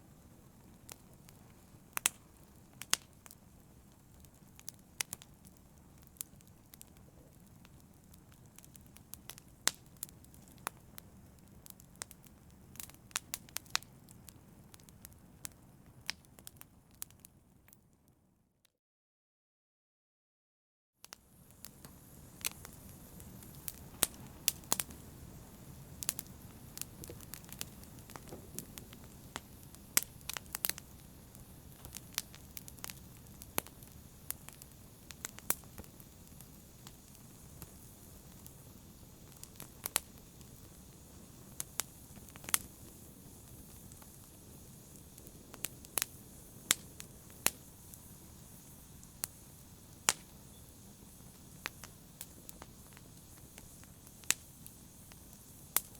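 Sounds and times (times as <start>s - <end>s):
wood fire crackling and popping: 0.0s - 17.8s, 21.0s - 55.9s
low rumble of burning: 0.0s - 18.3s, 21.1s - 55.9s.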